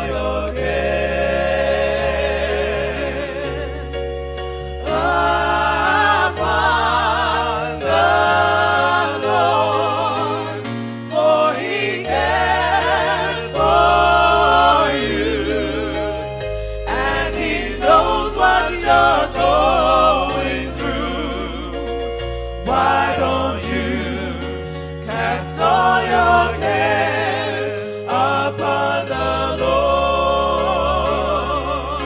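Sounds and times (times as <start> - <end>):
bass line: 0.0 - 27.5
gospel singing with vibrato: 0.0 - 32.0
sustained accompanying chords: 0.0 - 32.0.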